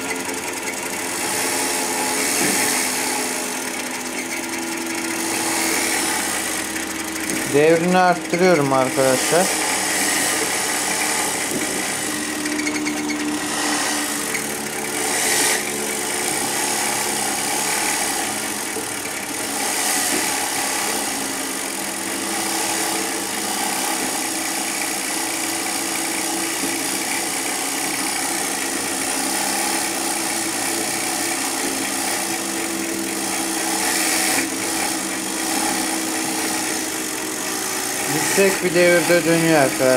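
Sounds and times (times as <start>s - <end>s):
cream separator whirring: 0.0s - 39.9s.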